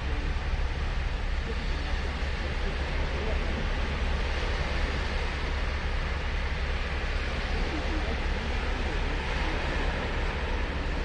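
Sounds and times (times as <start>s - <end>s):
low rumble: 0.0s - 11.0s
waves breaking on beach: 0.0s - 11.0s.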